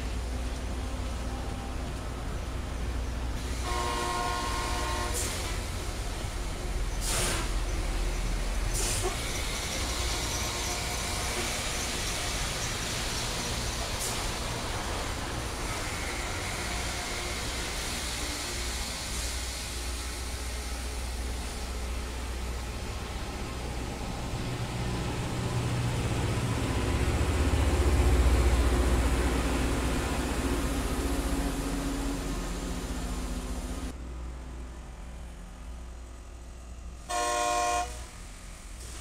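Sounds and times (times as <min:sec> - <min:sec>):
diesel train rolling past: 0:00.0 - 0:39.0.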